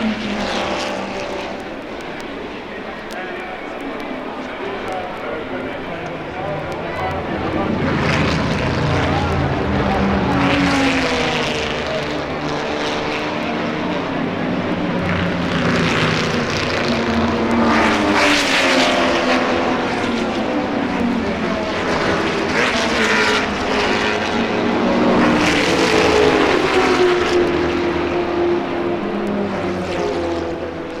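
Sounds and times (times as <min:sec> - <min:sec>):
racing cars passing at speed: 0:00.0 - 0:31.0.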